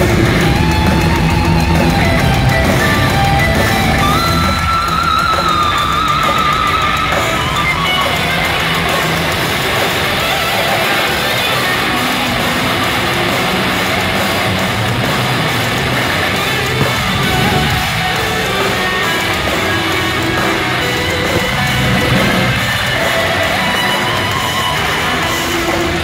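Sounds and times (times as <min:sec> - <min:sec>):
electric guitar: 0:00.0 - 0:26.0
heavy metal band playing live: 0:00.0 - 0:26.0.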